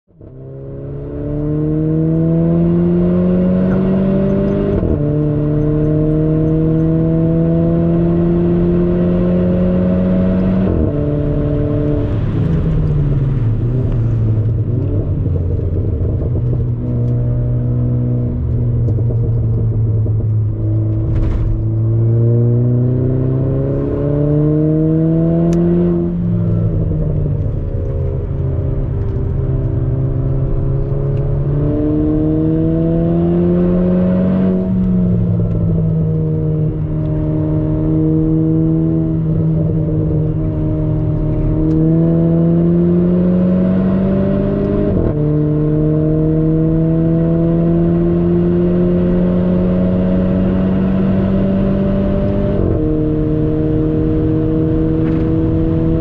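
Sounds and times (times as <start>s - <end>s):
car engine accelerating: 0.1s - 56.0s.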